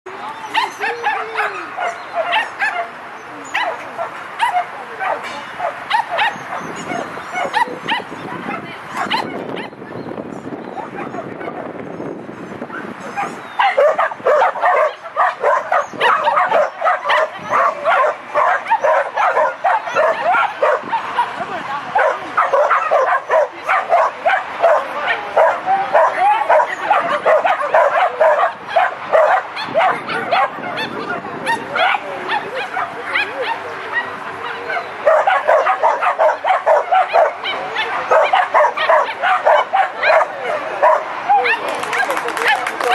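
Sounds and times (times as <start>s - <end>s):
dog barking excitedly: 0.6s - 2.9s, 3.6s - 9.8s, 12.7s - 21.4s, 22.0s - 42.9s.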